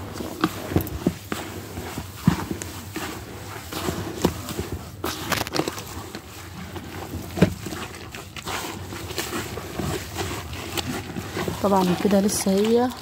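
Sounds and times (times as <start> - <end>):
hand mixing mash in bucket: 0.0 - 13.0.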